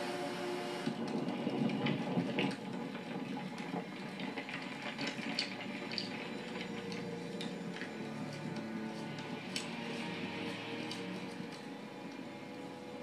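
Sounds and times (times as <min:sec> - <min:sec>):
rain on car windshield: 0:00.1 - 0:11.7
small rain taps: 0:00.8 - 0:13.0.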